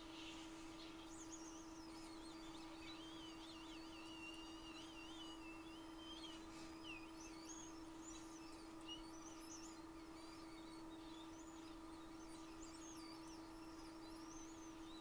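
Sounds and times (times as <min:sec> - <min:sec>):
faint high chirps: 0:00.0 - 0:15.0
faint low hum: 0:00.0 - 0:15.0.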